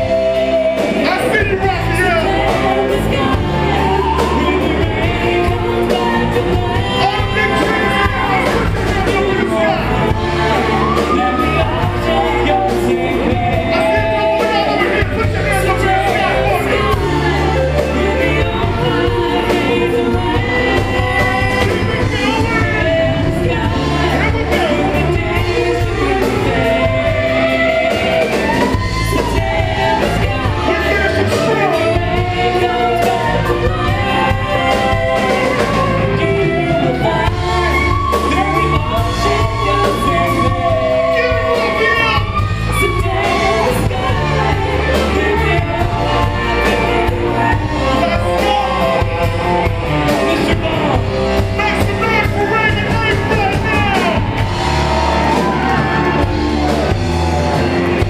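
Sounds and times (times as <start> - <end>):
live band playing: 0.0 - 58.0
singers holding long notes: 0.0 - 58.0.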